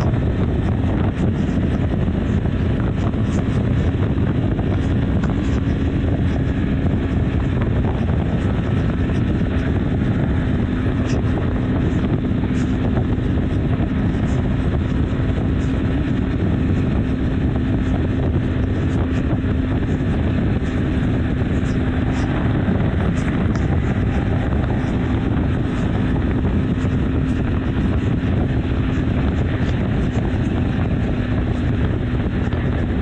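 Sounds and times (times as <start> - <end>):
motorcycle engine cruising: 0.0 - 33.0
wind rush: 0.0 - 33.0.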